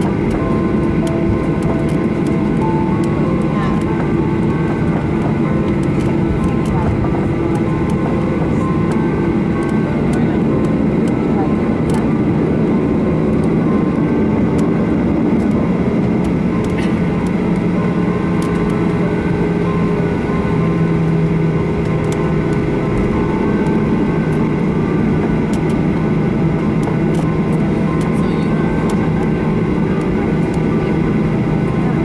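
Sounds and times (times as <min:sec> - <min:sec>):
jet engine rumble in cabin: 0:00.0 - 0:32.0.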